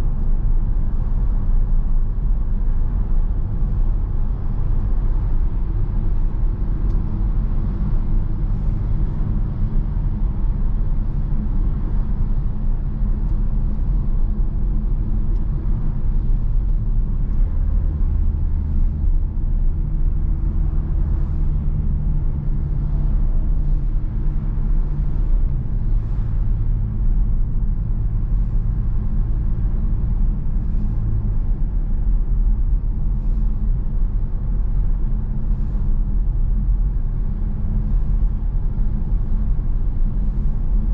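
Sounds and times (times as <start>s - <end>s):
diesel engine humming: 0.0s - 40.9s
low road rumble: 0.0s - 40.9s.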